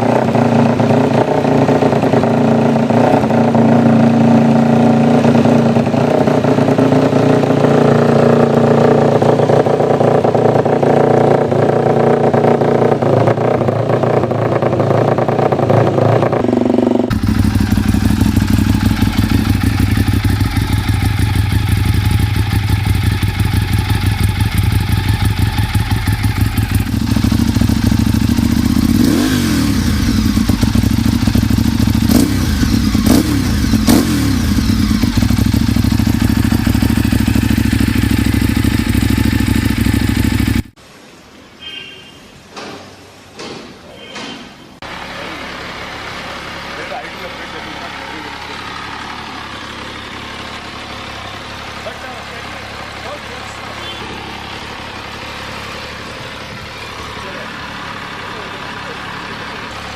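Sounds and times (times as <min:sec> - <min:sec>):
motorcycle engine revving: 0:00.0 - 0:40.8, 0:44.8 - 0:59.9
motorcycle exhaust running: 0:00.0 - 0:40.8, 0:44.8 - 0:59.9.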